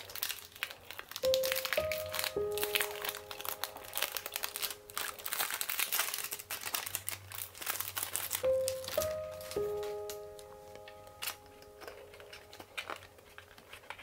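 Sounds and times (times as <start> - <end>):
cellophane crinkling: 0.0 - 14.0
soft background music: 0.0 - 14.0.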